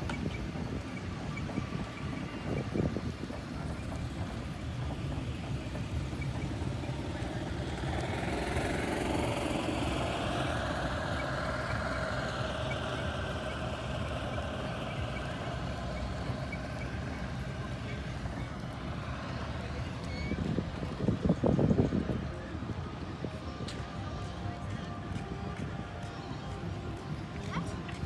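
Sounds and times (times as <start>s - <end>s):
engine running at low speed: 0.0s - 28.0s.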